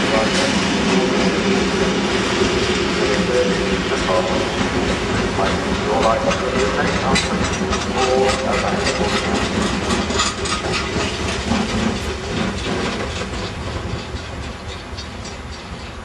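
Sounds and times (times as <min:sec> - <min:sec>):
train wheels clattering over rails: 0:00.0 - 0:16.0.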